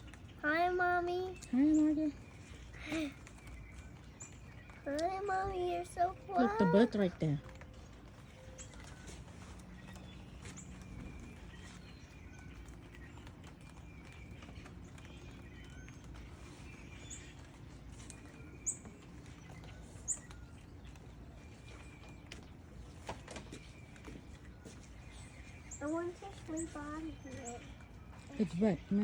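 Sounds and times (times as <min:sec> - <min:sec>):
birds chirping: 0:00.0 - 0:29.0
low steady background noise: 0:00.0 - 0:29.0.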